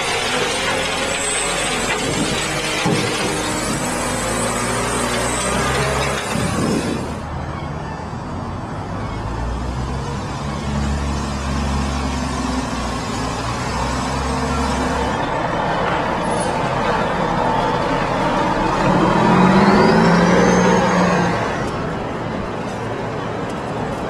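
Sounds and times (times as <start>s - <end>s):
bus diesel engine hum: 0.0s - 24.0s
road noise: 0.0s - 24.0s.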